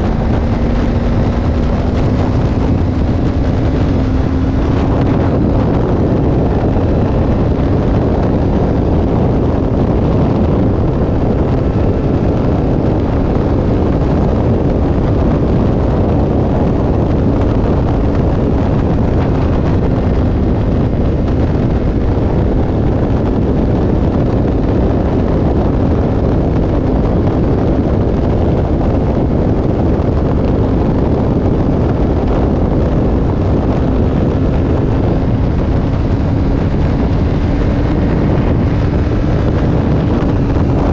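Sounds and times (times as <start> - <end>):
motorcycle engine: 0.0 - 40.9
wind rushing over microphone: 0.0 - 40.9.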